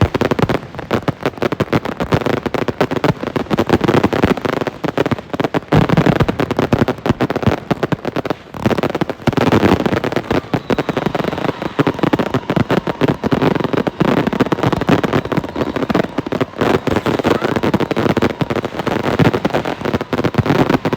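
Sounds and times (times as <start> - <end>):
firecrackers popping: 0.0 - 20.9.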